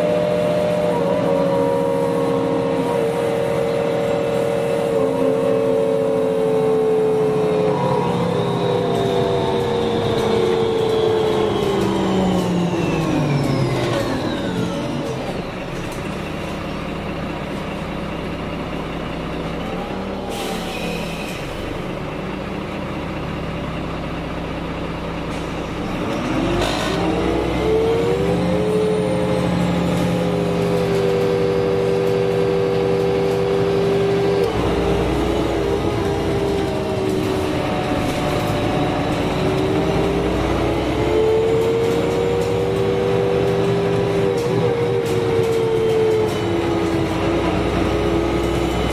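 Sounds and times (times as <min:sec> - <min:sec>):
bus engine whine: 0:00.0 - 0:48.9.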